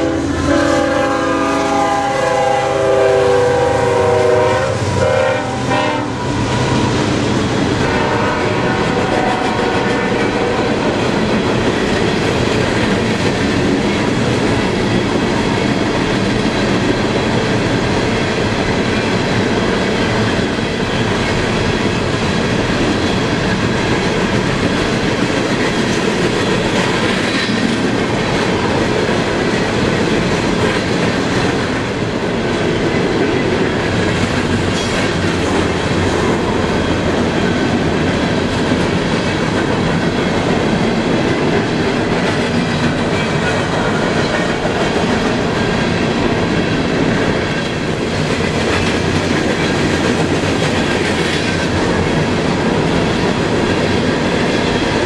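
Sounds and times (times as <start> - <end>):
steel wheels running over rails: 8.8 - 55.0.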